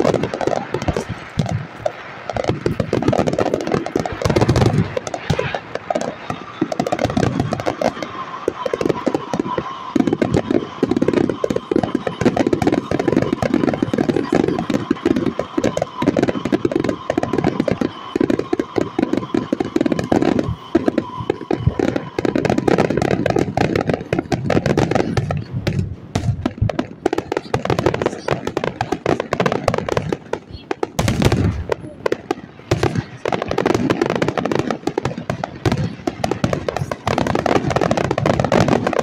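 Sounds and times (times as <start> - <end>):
fireworks shell bursts and crackles: 0.0 - 39.0.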